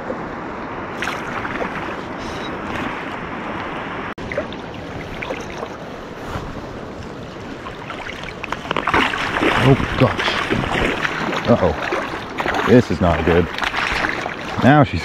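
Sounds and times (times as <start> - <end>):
wind on microphone: 0.0 - 14.6
river water rushing: 0.3 - 15.0
small water splashes: 0.9 - 3.2, 4.2 - 5.9, 6.9 - 15.0.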